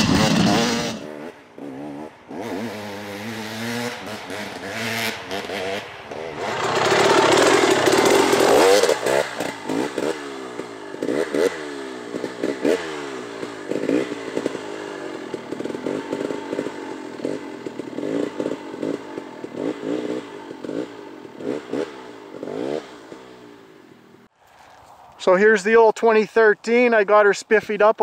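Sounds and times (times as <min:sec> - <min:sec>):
dirt bike engine revving: 0:00.0 - 0:24.3.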